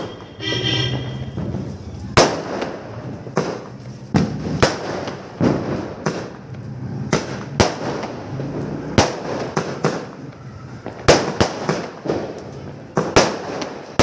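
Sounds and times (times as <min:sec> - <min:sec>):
firecracker bangs: 0:00.0 - 0:10.2, 0:10.8 - 0:14.0
fireworks crackling: 0:00.0 - 0:14.0.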